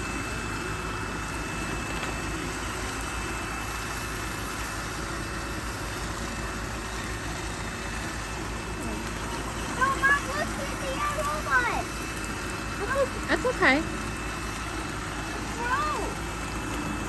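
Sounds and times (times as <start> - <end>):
robot vacuums whirring: 0.0 - 17.0.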